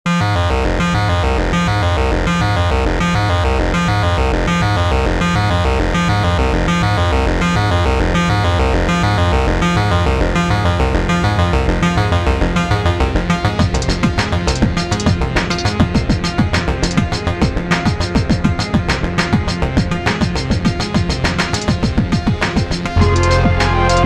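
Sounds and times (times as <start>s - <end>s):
electronic trip-hop music: 0.1s - 24.0s.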